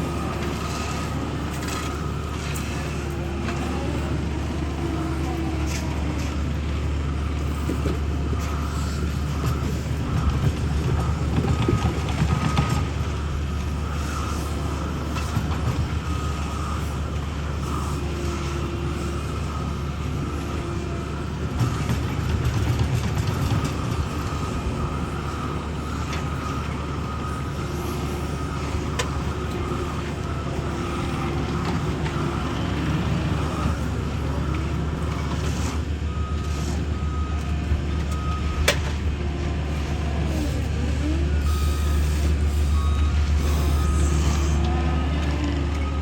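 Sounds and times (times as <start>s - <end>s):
heavy equipment engines humming: 0.0s - 46.0s
reversing alarm beeping: 0.0s - 46.0s.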